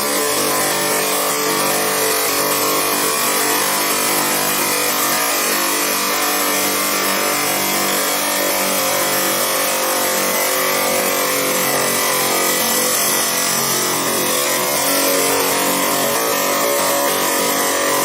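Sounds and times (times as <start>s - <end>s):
chop saw cutting steel bar: 0.0s - 18.0s.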